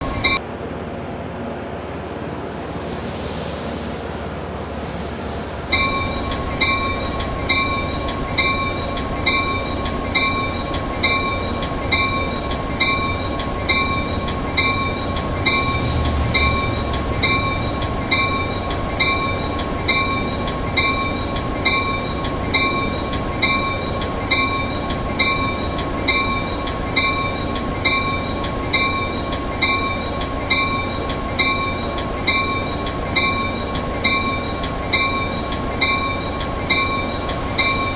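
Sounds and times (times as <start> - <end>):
locomotive bell ringing: 0.0 - 0.4, 5.7 - 37.9.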